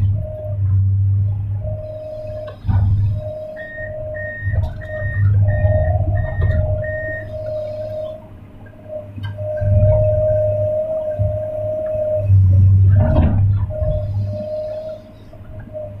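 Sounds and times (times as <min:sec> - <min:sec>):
excavator engine drone: 0:00.0 - 0:16.0
steady whining tone: 0:00.0 - 0:16.0
warning alarm beeps: 0:00.0 - 0:16.0.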